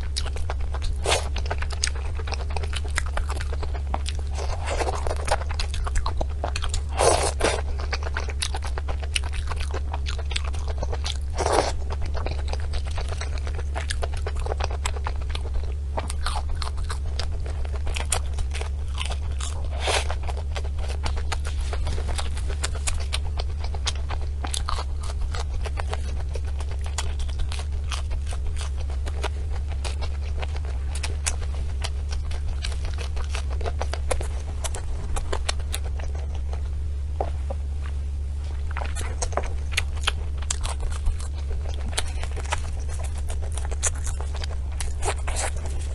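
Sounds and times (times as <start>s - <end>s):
chewing and crunching: 0.0s - 45.9s
steady low hum: 0.0s - 45.9s.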